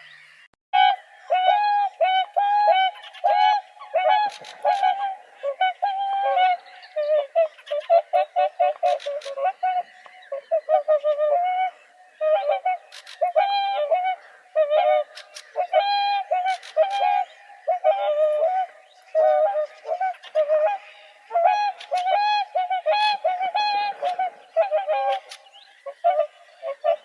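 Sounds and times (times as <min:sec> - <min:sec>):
swans honking: 0:00.8 - 0:27.0.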